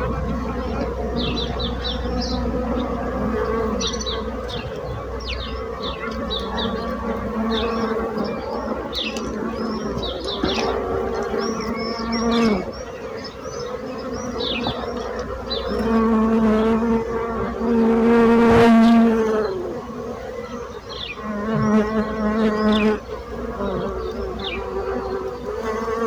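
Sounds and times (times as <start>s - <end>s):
bees buzzing in flight: 0.0s - 26.0s.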